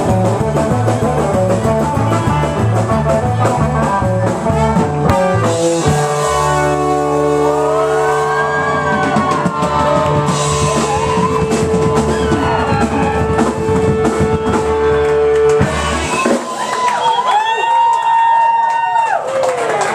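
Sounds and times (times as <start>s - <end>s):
rock band playing: 0.0s - 18.2s.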